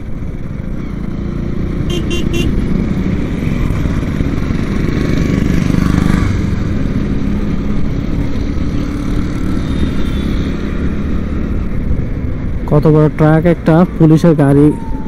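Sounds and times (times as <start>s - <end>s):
motorcycle engine running: 0.0s - 12.7s
traffic: 0.0s - 15.0s.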